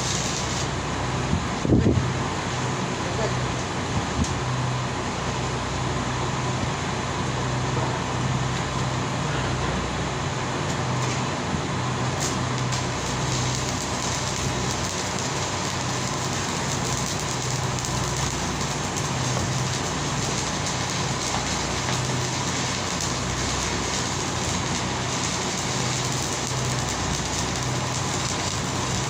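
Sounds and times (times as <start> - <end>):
steady mechanical noise: 0.0 - 29.0.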